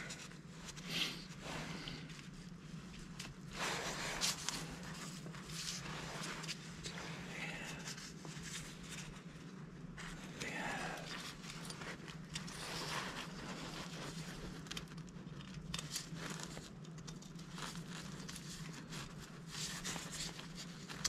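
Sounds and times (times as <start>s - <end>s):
rustling scraping and clicks: 0.0s - 21.0s
steady low hum: 0.0s - 21.0s.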